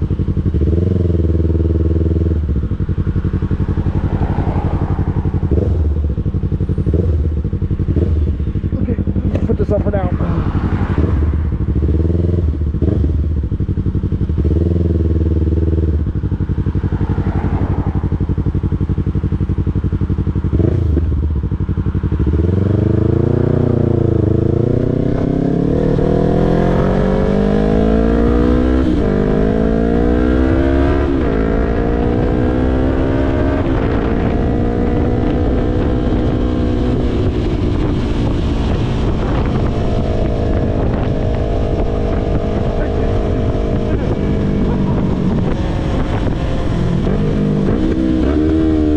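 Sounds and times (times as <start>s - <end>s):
motorcycle engine revving and accelerating: 0.0s - 48.9s.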